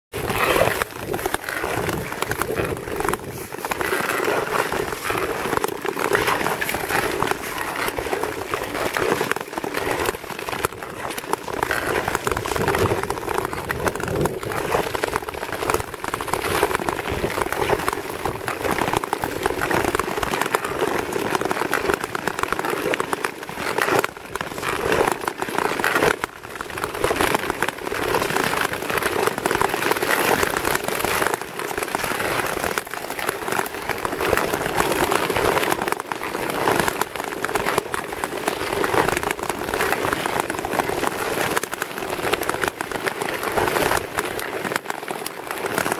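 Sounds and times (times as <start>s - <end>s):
skate blades scraping over ice: 0.2s - 45.9s.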